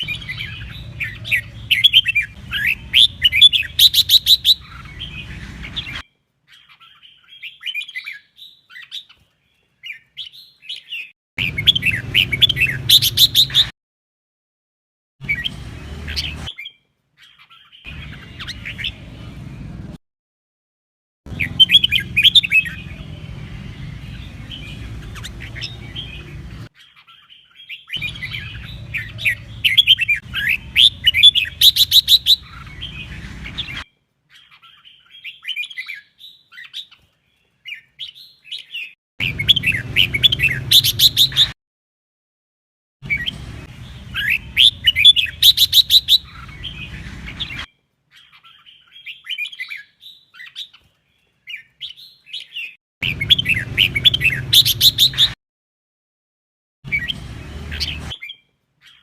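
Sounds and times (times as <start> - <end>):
bird singing warbled phrases: 0.0 - 13.7, 15.2 - 20.0, 21.3 - 41.6, 43.0 - 55.4, 56.9 - 59.0.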